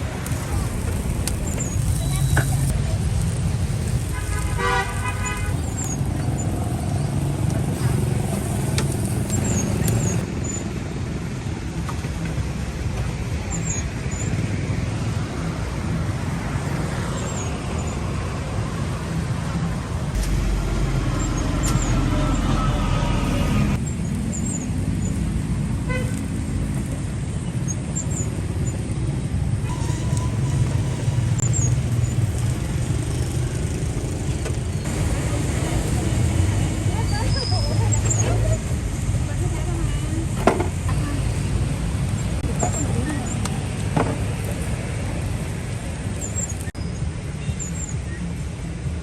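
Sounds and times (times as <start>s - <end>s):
road traffic engines rumbling: 0.0s - 49.0s.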